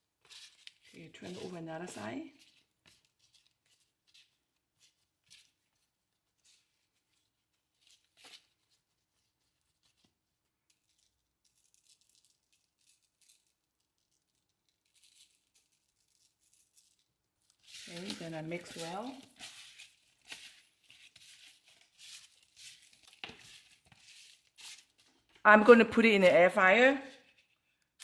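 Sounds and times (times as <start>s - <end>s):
plastic gloves rustling: 0.0s - 25.5s, 26.5s - 28.0s.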